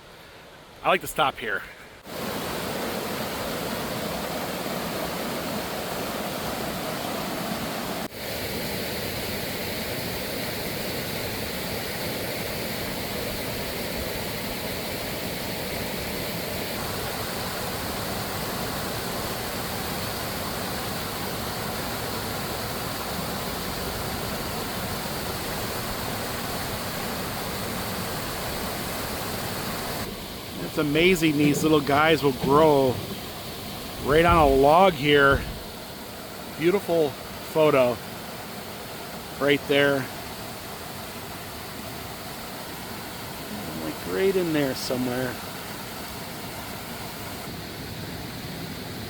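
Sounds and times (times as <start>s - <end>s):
mountain stream rushing: 2.0s - 49.0s.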